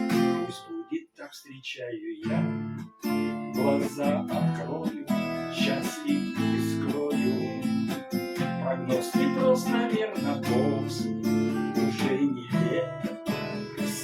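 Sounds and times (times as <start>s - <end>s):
acoustic guitars strumming chords: 0.0s - 1.0s, 2.2s - 14.0s.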